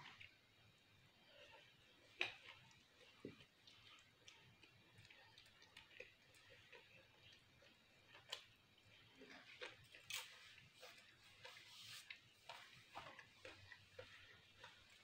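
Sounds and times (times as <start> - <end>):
wet mouth clicks chewing: 2.1 - 15.0.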